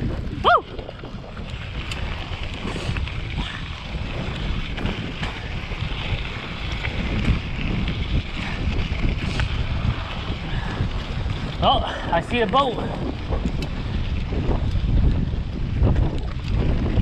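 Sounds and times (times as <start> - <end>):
bike tyres rolling on dirt: 0.0 - 17.0
wind buffeting microphone: 0.0 - 17.0.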